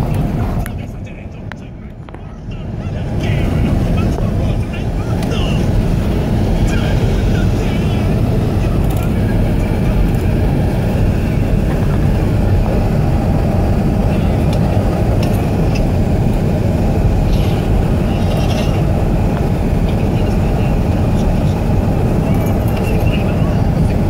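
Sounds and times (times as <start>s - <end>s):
car tyre and engine rumble: 0.0s - 24.0s.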